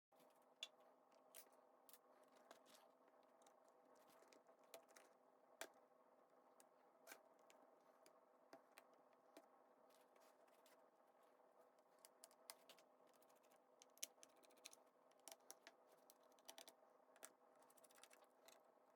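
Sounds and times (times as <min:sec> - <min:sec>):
faint steady hum: 0:00.1 - 0:18.9.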